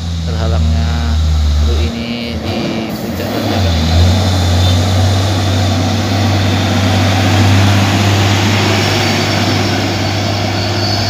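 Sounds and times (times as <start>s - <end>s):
truck diesel engine passing: 0.0s - 11.0s.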